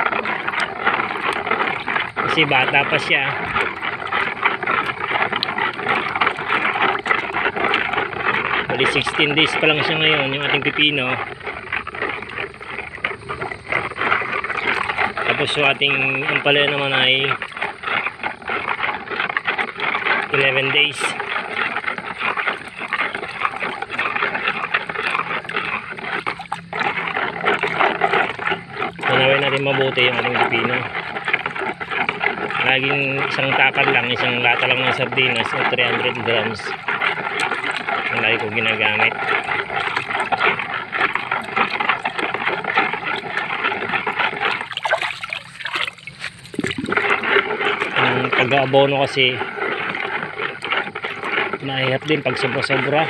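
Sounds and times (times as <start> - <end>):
water sloshing in plastic basin: 0.0 - 53.0.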